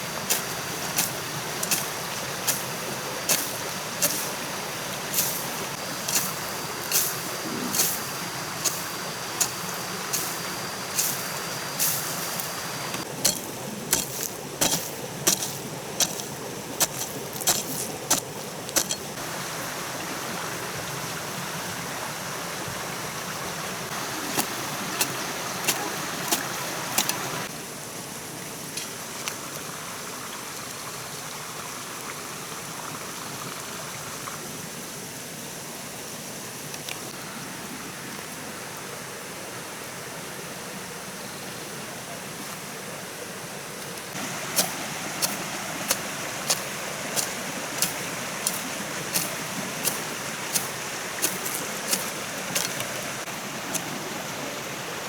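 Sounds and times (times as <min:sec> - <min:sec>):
steady hiss: 0:00.0 - 0:30.3, 0:33.4 - 0:55.0.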